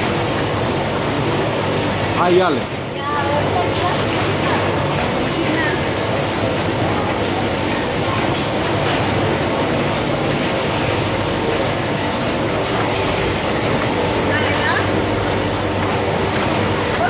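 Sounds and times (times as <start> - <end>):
machine humming and rattling: 0.0 - 17.0.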